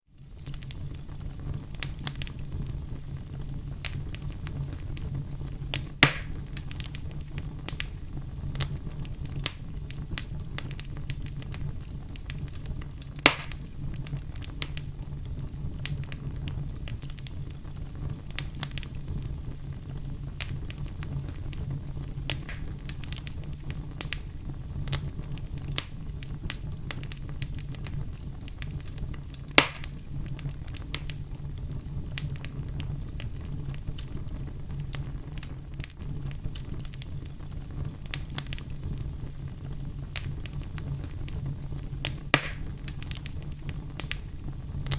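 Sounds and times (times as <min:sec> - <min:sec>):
fire burning in a fireplace: 0:00.0 - 0:44.9
loud fire pops: 0:00.2 - 0:44.9.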